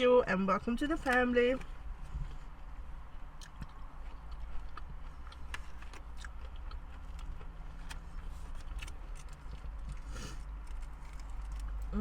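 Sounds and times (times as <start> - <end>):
person chewing food: 2.0 - 12.0.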